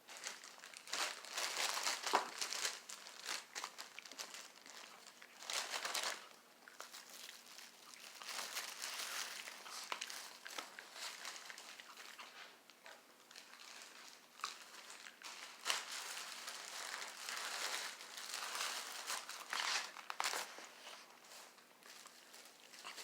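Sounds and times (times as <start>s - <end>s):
paper crinkling and rustling: 0.0s - 23.0s.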